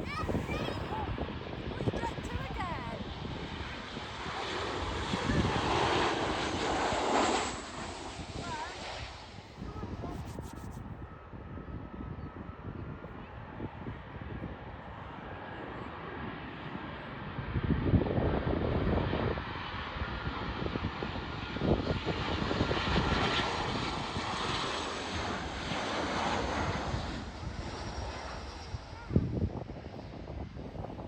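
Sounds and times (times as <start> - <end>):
jet engines passing overhead: 0.0 - 31.0.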